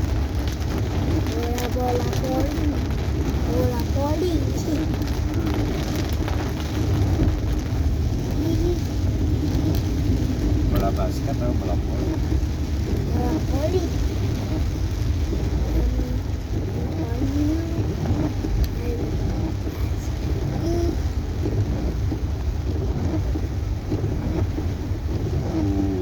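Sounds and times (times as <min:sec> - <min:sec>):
car road rumble from inside: 0:00.0 - 0:26.0
rain on car body: 0:00.0 - 0:26.0.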